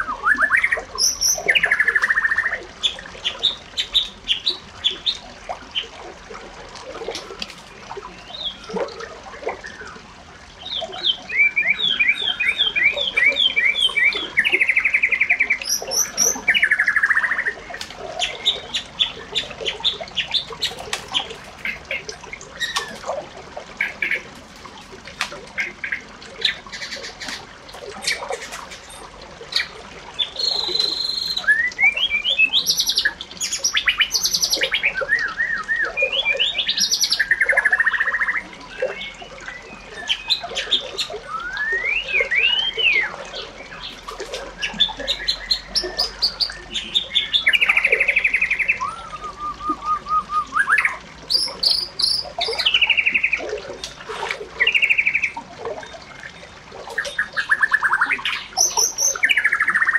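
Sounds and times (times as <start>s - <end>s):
bird song: 0.0s - 5.9s, 7.7s - 8.9s, 9.6s - 23.1s, 28.0s - 53.9s, 54.6s - 59.9s.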